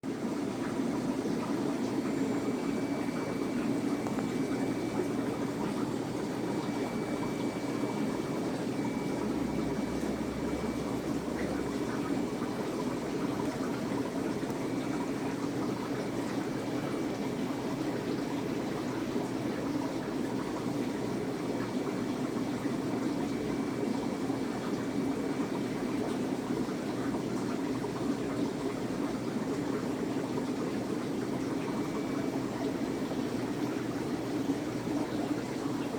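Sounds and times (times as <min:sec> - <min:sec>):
aquarium water rushing: 0:00.1 - 0:35.9.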